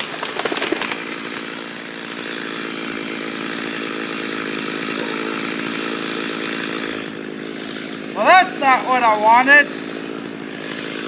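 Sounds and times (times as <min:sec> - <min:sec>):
chainsaw cutting tree: 0:00.0 - 0:11.0.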